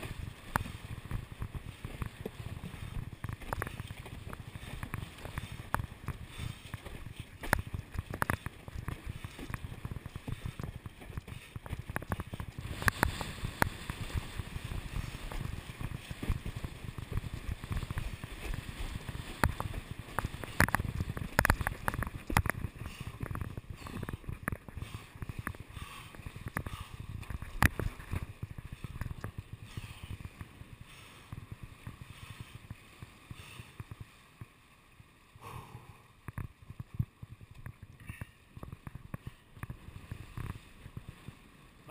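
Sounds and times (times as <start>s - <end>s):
wind rumble on microphone: 0.0s - 34.2s, 35.5s - 41.9s
board slapping choppy water: 0.0s - 41.9s
water rushing along board hull: 0.0s - 41.9s.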